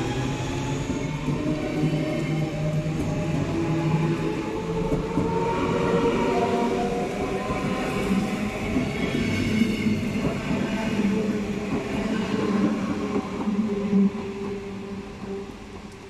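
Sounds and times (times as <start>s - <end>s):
electric train hum: 0.0s - 16.0s
train wheels rolling on rails: 0.0s - 16.0s.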